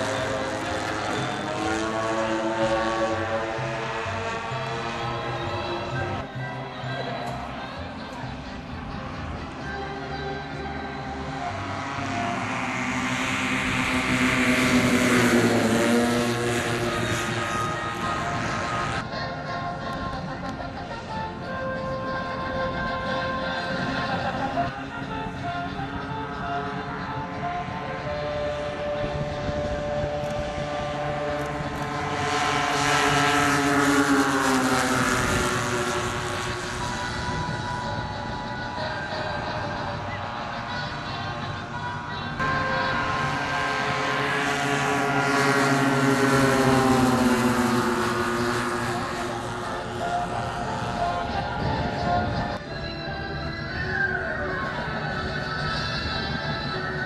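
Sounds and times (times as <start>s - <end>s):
model plane petrol engines: 0.0s - 57.0s
propellers on low flypast: 0.0s - 57.0s.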